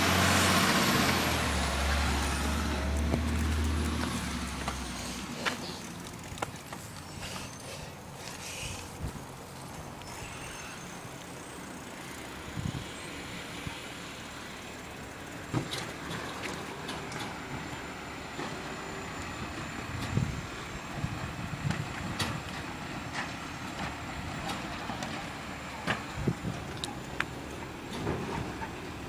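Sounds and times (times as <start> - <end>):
garbage truck running: 0.0 - 8.2, 8.9 - 29.0.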